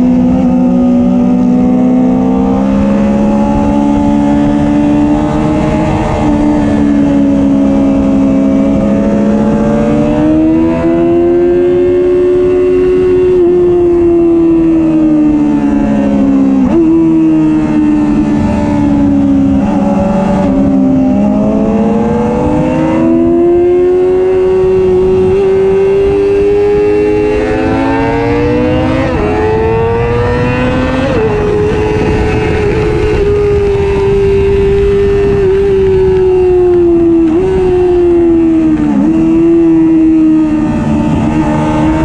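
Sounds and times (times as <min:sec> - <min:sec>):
motorcycle engine revving: 0:00.0 - 0:42.0
wind rush: 0:00.0 - 0:42.0.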